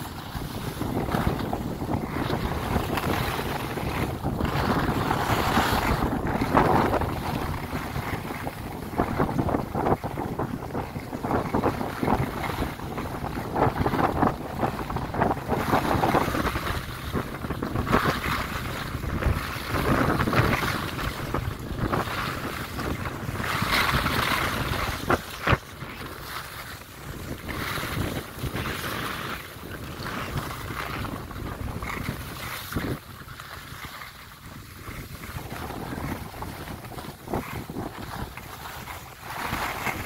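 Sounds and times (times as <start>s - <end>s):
skis scraping over snow: 0.0s - 40.0s
wind buffeting microphone: 0.0s - 40.0s.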